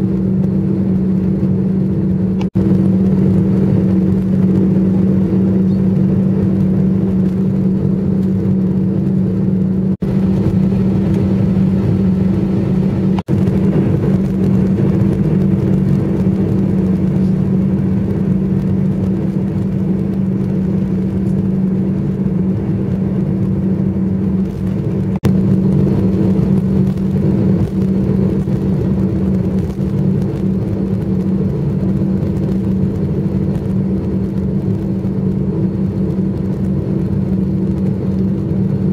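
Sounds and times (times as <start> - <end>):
airliner cabin engine hum: 0.0 - 38.9.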